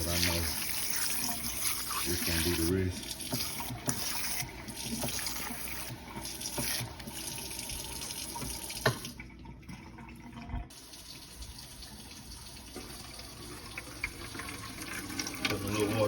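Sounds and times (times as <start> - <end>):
tap water running into container: 0.0 - 16.0.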